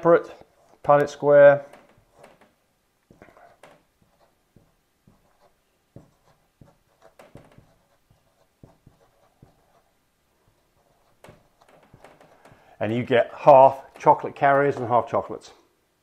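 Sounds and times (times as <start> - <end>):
marker squeaking on whiteboard: 0.0 - 15.1.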